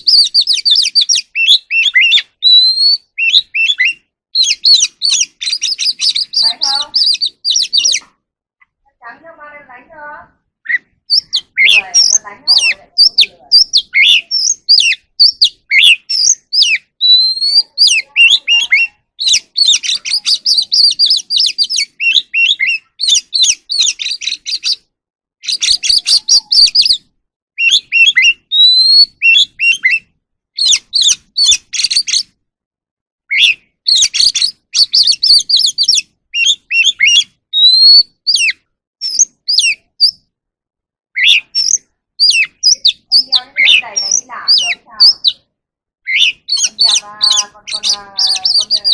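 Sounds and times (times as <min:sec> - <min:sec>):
bird singing whistles and trills: 0:00.0 - 0:08.1, 0:10.6 - 0:32.4, 0:33.3 - 0:40.3, 0:41.2 - 0:45.5, 0:46.1 - 0:48.9.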